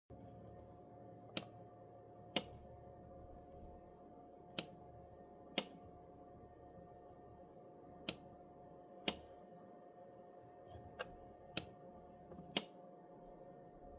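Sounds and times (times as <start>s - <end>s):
faint steady hum: 0.1s - 13.9s.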